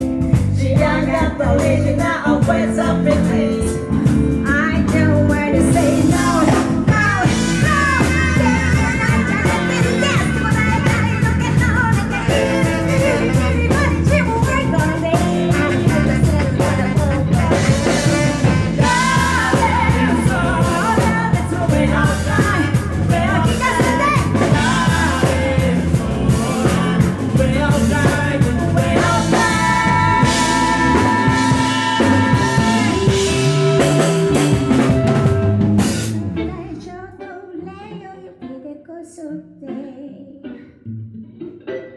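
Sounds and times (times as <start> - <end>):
rock band playing: 0.0 - 36.9
person singing: 0.1 - 41.9.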